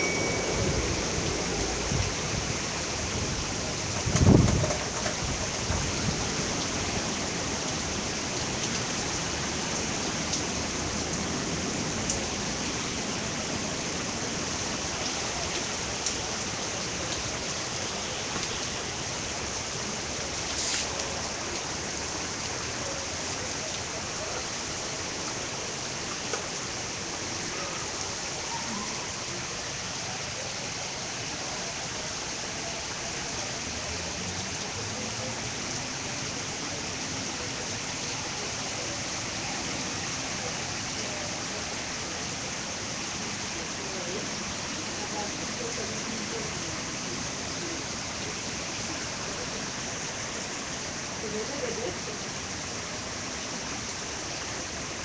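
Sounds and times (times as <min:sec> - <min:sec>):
rain pouring: 0:00.0 - 0:55.0.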